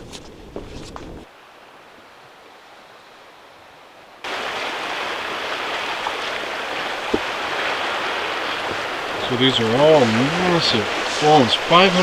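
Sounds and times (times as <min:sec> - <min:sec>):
rushing water: 0:01.2 - 0:12.0
faint hiss: 0:01.3 - 0:12.0.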